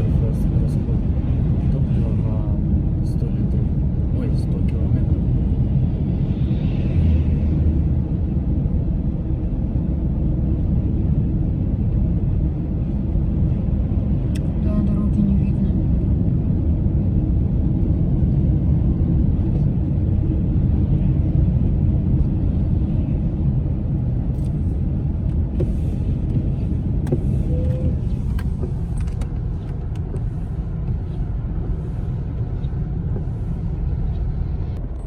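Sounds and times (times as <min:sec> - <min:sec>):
car interior road rumble: 0:00.0 - 0:35.0.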